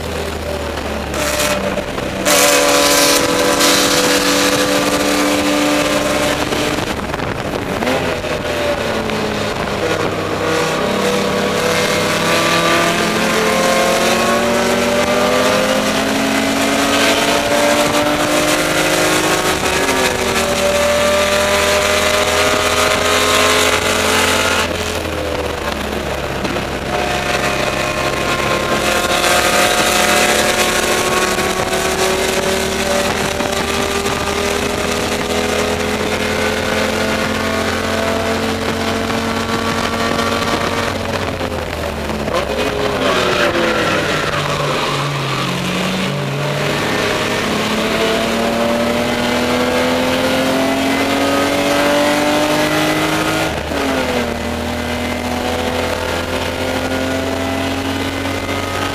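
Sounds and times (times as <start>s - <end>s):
race car engine accelerating: 0.0s - 58.9s
road and wind noise: 0.0s - 58.9s.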